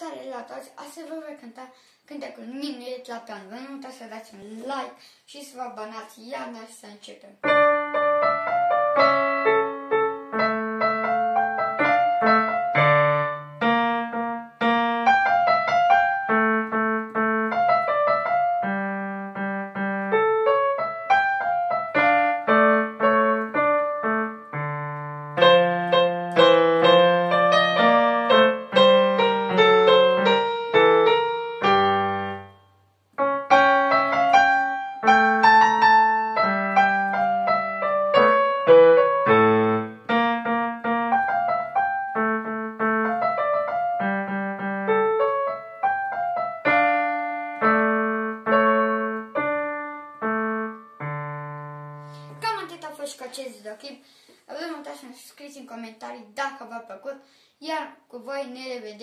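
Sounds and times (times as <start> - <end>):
digital piano minuet: 0.0 - 59.0.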